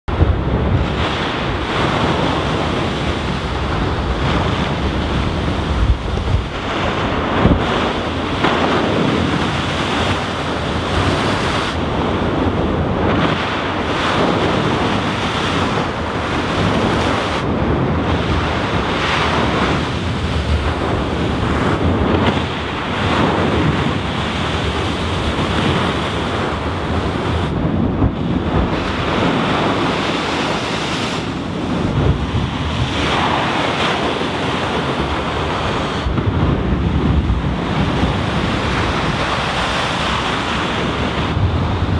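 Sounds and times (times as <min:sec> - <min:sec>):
waves breaking against seawall: 0:00.1 - 0:41.9
wind buffeting microphone: 0:00.1 - 0:41.9.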